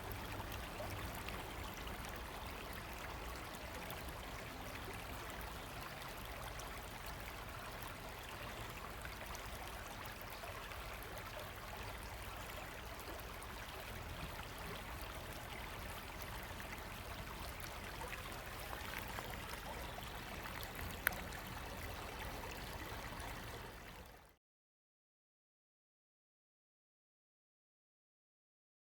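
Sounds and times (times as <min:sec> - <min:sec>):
river water flowing: 0:00.0 - 0:24.3.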